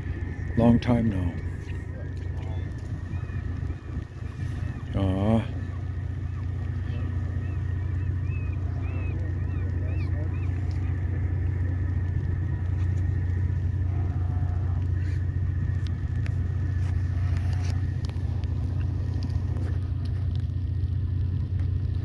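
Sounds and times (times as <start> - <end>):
high seabird calls: 0.0 - 19.6
ship engines droning: 0.0 - 22.0.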